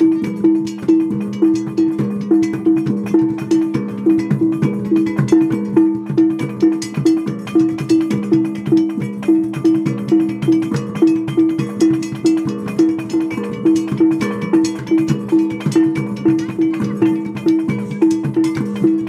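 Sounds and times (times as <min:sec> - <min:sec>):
metallic percussion music: 0:00.0 - 0:19.0.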